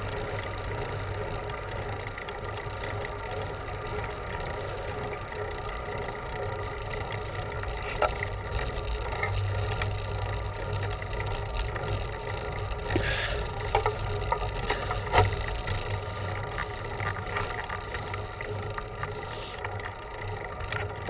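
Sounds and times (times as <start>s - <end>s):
bicycle rolling on pavement: 0.0s - 21.0s.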